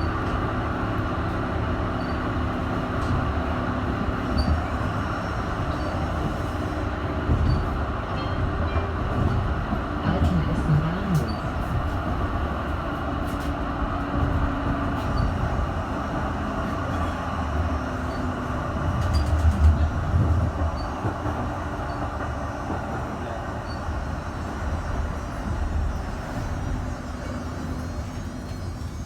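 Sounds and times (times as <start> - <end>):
tram rolling on rails: 0.0 - 29.0.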